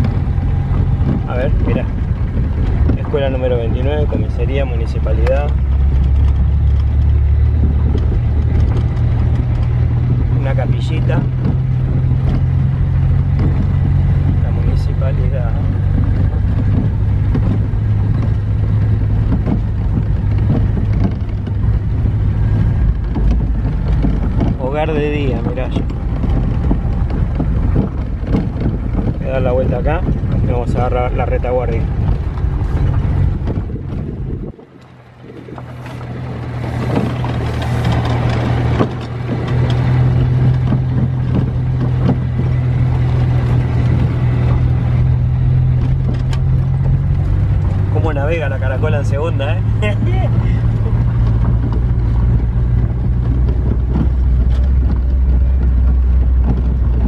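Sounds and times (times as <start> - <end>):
engine and road drone: 0.0 - 57.0
knocks and rattles: 0.0 - 57.0.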